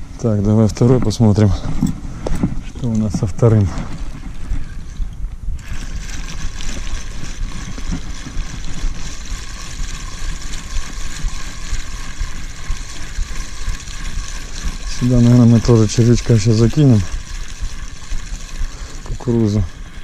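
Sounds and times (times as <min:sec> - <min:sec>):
fishing reel whirring: 0:01.8 - 0:20.0.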